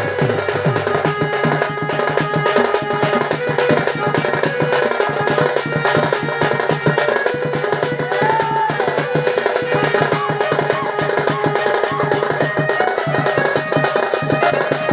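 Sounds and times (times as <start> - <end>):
fast drumming: 0.0 - 14.9
held melody line: 0.0 - 14.9.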